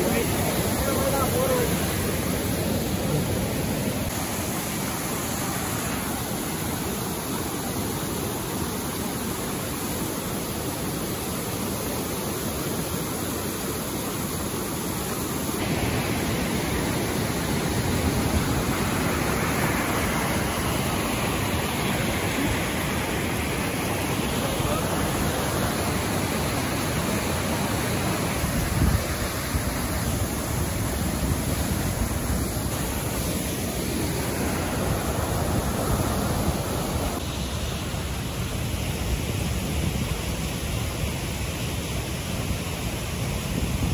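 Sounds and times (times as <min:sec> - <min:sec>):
water rushing over rocks: 0:00.0 - 0:43.9.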